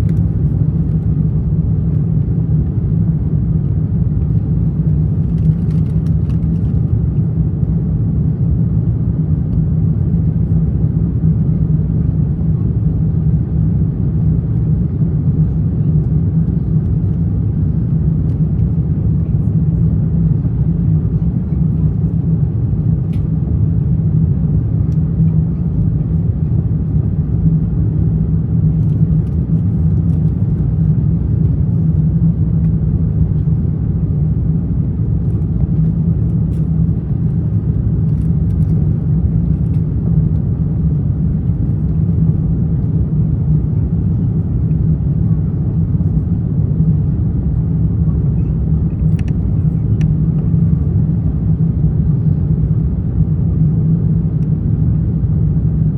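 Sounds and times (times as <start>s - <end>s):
airliner cabin engine rumble: 0.0s - 55.9s.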